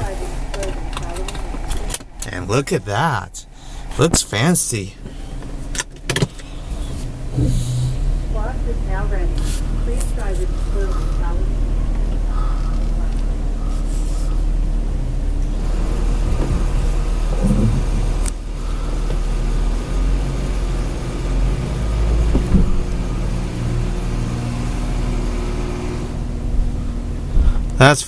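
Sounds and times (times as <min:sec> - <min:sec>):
car engine low rumble: 0:00.0 - 0:28.0.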